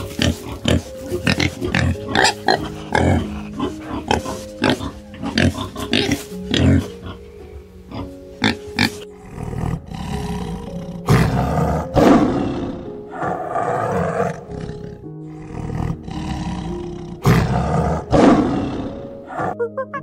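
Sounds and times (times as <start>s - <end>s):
tiger roaring and growling: 0.0s - 19.6s
soft piano music: 0.0s - 20.0s.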